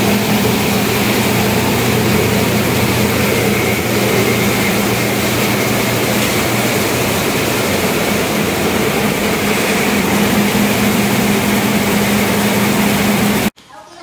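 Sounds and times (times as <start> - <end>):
rice mill machinery din: 0.0 - 13.5
steady low hum: 0.0 - 13.5.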